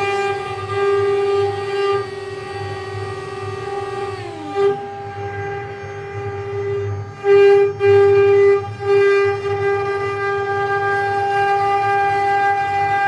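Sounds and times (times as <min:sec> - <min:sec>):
cnc machine motor whine: 0:00.0 - 0:13.0.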